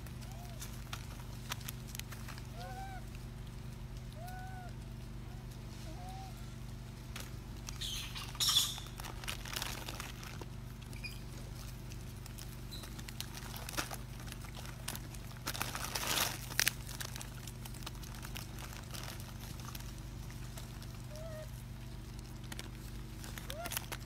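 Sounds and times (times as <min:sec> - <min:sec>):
plastic crinkling and rustling: 0:00.0 - 0:03.1, 0:07.0 - 0:24.0
steady low hum: 0:00.0 - 0:24.0.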